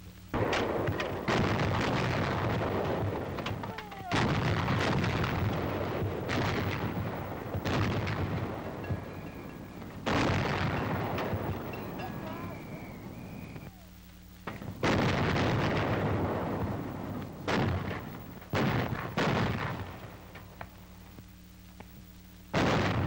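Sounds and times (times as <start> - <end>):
anti-aircraft guns firing: 0.4 - 13.7, 14.4 - 20.7, 22.6 - 23.0.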